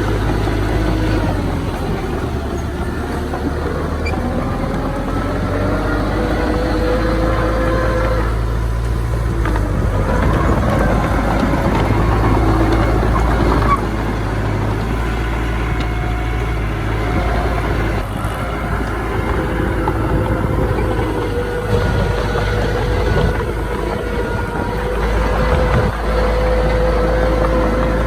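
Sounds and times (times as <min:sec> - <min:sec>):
diesel engines running under load: 0:00.0 - 0:28.0.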